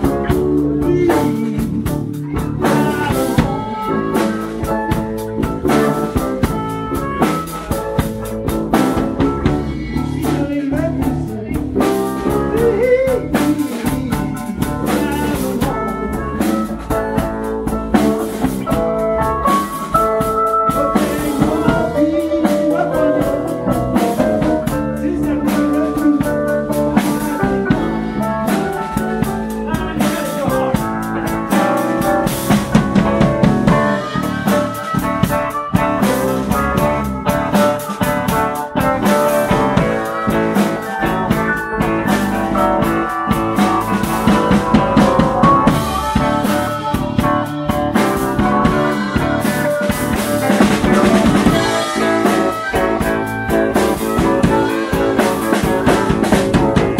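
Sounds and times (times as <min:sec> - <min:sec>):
drum kit: 0:00.0 - 0:56.9
electric bass: 0:00.0 - 0:56.9
guitar with bending notes: 0:00.0 - 0:56.9.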